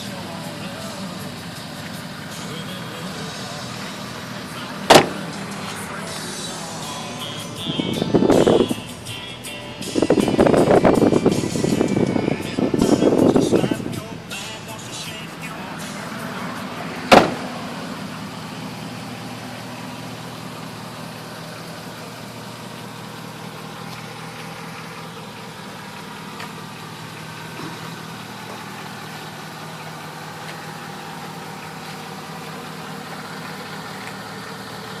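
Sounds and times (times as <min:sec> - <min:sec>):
pickup engine idling: 0:00.0 - 0:35.0.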